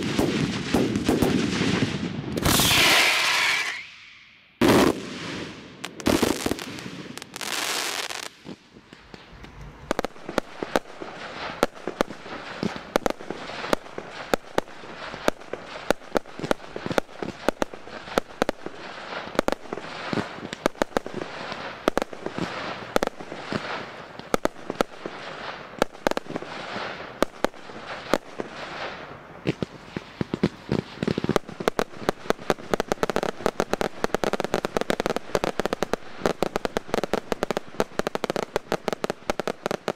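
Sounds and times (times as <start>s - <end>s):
fireworks bangs and crackles: 0.0s - 39.9s
fireworks hissing rush: 0.0s - 39.9s.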